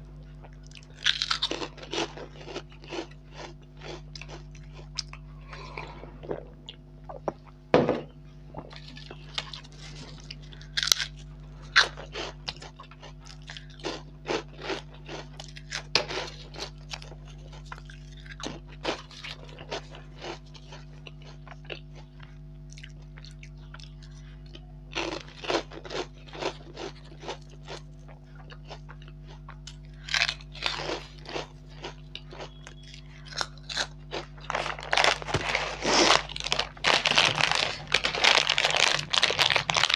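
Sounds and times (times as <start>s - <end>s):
low steady hum: 0.0s - 39.9s
chips crunching while chewed: 0.2s - 6.8s, 8.6s - 39.9s.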